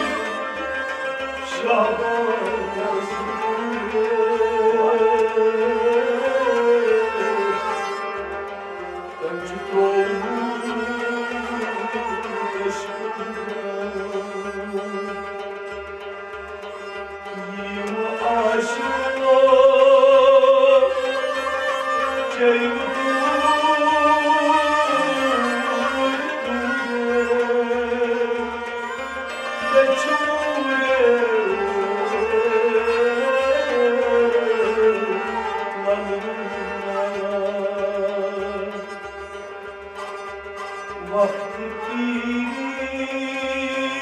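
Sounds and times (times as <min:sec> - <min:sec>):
man singing: 0:00.0 - 0:08.1, 0:09.1 - 0:15.5, 0:17.2 - 0:39.2, 0:40.9 - 0:44.0
harmonium: 0:00.0 - 0:44.0.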